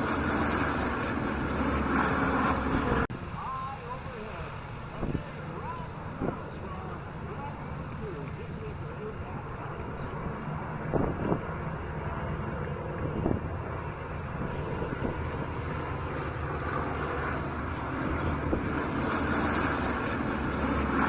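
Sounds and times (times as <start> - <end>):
airplane engine rumble: 0.0 - 21.0.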